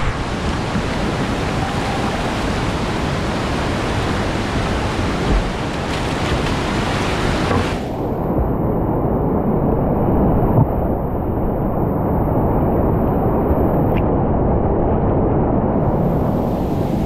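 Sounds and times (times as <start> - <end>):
muffled roar of rapids: 0.0 - 17.0.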